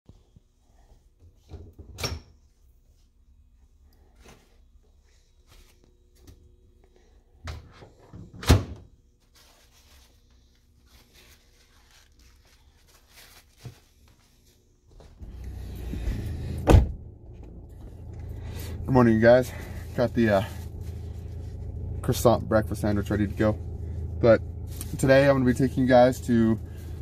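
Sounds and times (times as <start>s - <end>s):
faint steady hum: 2.2s - 27.0s.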